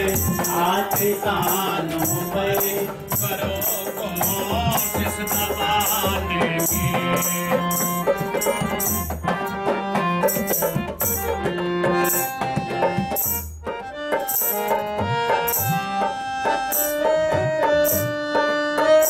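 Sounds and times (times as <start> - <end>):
jingling strikes: 0.0 - 19.0
sustained melody: 0.0 - 19.0.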